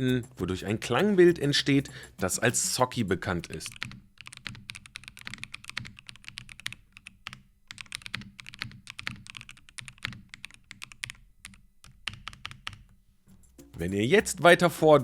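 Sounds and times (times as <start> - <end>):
fast typing on keyboard: 0.2 - 12.9.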